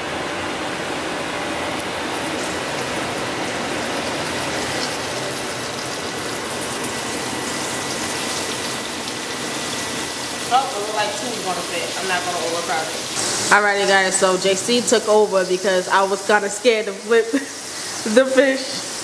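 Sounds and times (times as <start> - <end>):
fish frying in hot oil: 1.7 - 19.0.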